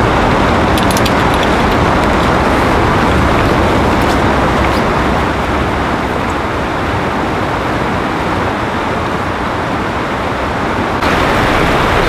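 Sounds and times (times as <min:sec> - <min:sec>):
river water over rapids: 0:00.0 - 0:12.0.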